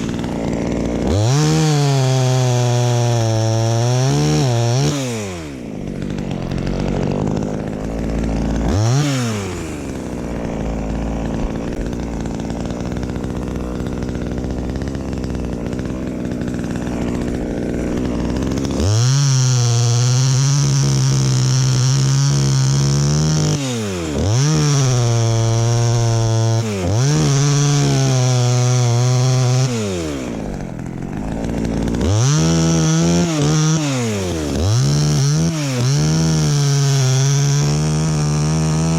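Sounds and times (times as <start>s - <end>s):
two-stroke chainsaw revving: 0.0s - 38.9s.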